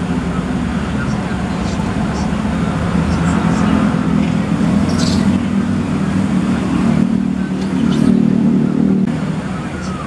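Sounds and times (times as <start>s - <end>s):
loud low engine hum: 0.0s - 10.0s.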